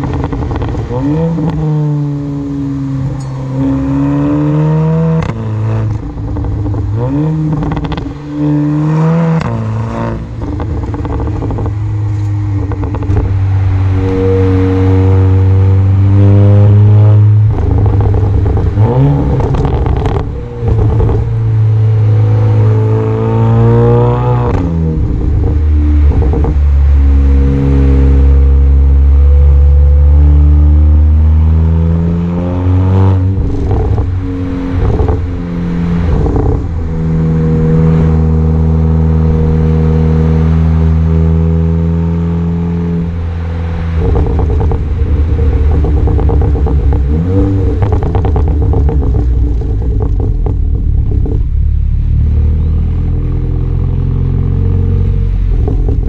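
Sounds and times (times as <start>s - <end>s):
car exhaust engine revving: 0.0s - 56.0s
exhaust crackles: 0.0s - 56.0s.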